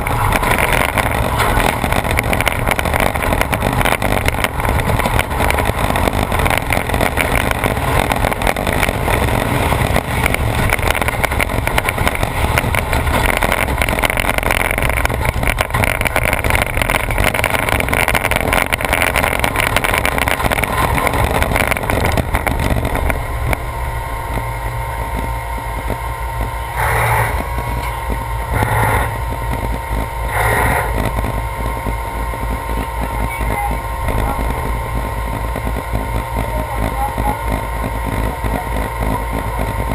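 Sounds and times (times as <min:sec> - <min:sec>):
engine blips: 0:00.0 - 0:39.9
vehicle engine rumbling: 0:00.0 - 0:39.9.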